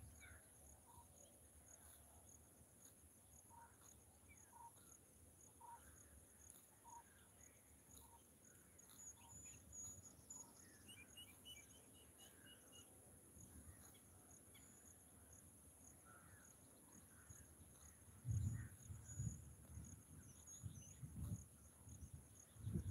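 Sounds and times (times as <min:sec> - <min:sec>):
insect chorus buzzing: 0:00.0 - 0:22.9.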